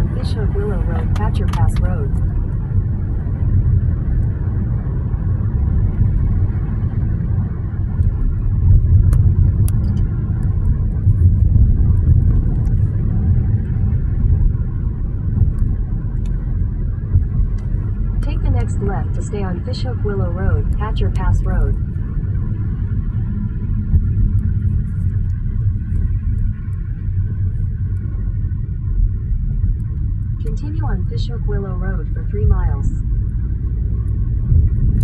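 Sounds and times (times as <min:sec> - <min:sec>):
car interior road rumble: 0:00.0 - 0:35.0.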